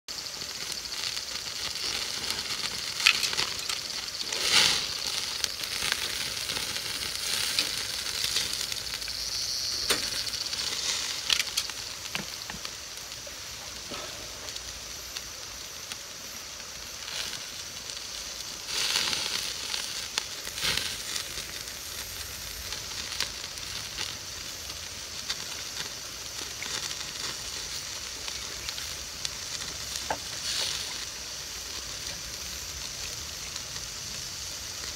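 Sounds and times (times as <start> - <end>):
meat sizzling on charcoal grill: 0.1 - 34.9
sharp pops and crackles: 0.1 - 34.9.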